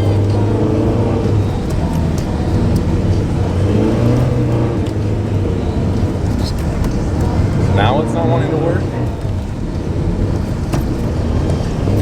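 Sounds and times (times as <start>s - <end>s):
car engine running: 0.0s - 12.0s
tyre and road noise: 0.0s - 12.0s.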